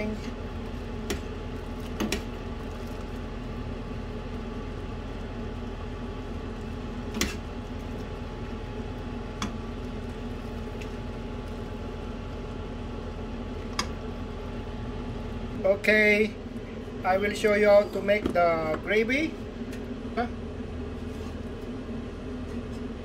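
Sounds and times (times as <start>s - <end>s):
soup boiling: 0.0s - 23.0s.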